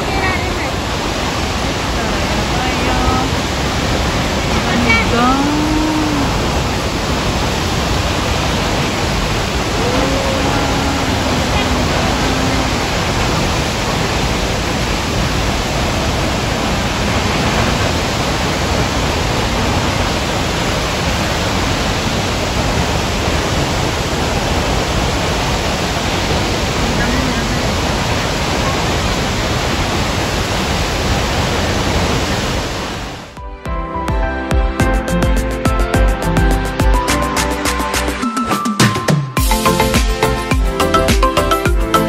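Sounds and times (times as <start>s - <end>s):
waterfall rushing: 0.0s - 33.4s, 35.0s - 42.0s.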